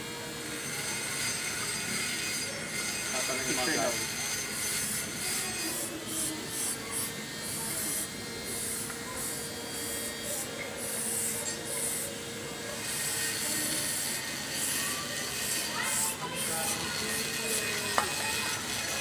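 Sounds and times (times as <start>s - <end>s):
hand scrubbing metal pulley: 0.6s - 19.0s.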